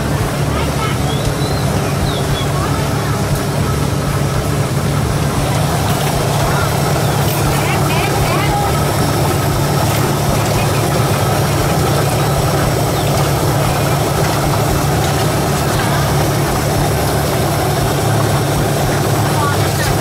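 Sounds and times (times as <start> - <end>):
constant hiss: 0.0 - 20.0
low machine hum: 0.0 - 20.0.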